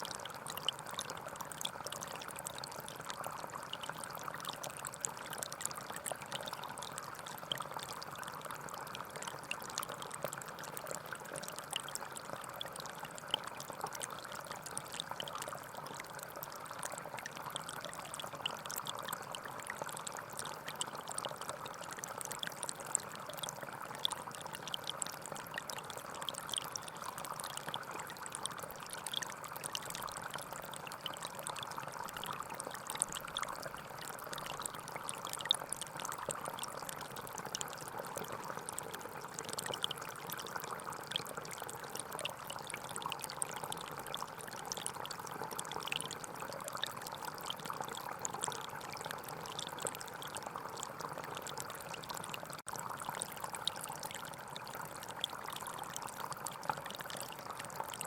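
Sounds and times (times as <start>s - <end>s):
water splashes and drips: 0.0s - 58.0s.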